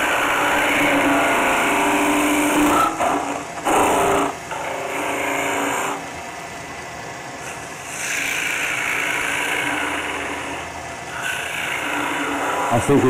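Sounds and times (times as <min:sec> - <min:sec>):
gouge scraping wood on lathe: 0:00.0 - 0:06.0, 0:07.4 - 0:12.8.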